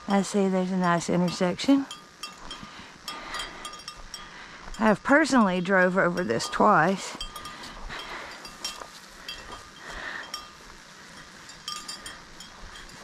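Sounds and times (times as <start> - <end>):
harness hardware clinking: 0.1 - 13.0.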